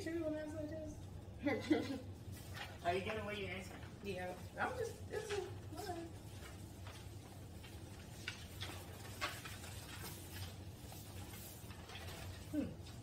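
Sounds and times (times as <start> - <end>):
low room hum: 0.0 - 13.0
paper rustling: 2.0 - 13.0.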